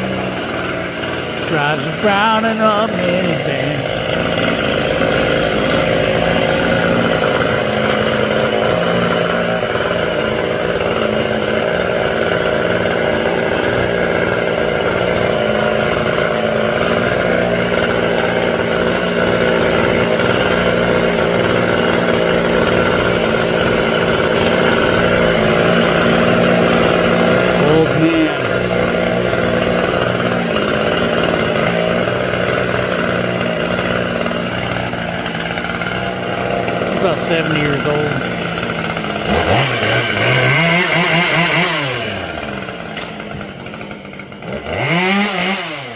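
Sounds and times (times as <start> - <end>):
chainsaw cutting limbs: 0.0 - 45.9.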